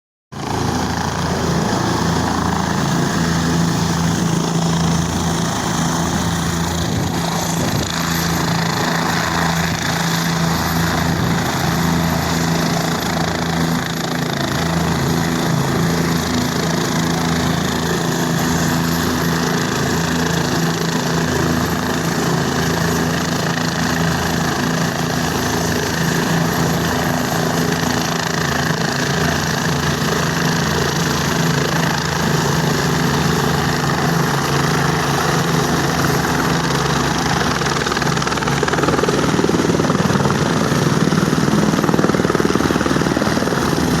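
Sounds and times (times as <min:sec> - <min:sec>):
helicopter rotor and engine: 0:00.3 - 0:44.0.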